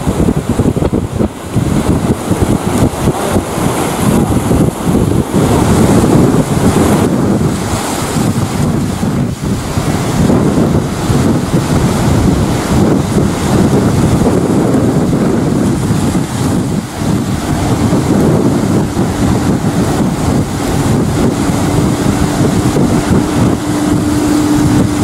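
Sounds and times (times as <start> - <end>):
jet roar: 0.0 - 25.0
steady hum: 0.0 - 25.0
wind buffeting microphone: 0.0 - 25.0.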